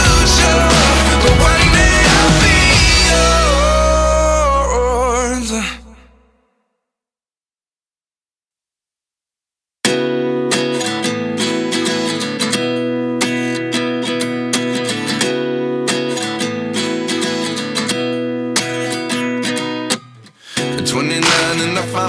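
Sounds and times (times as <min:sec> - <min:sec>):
strummed acoustic guitar: 0:00.0 - 0:05.8, 0:09.9 - 0:22.0.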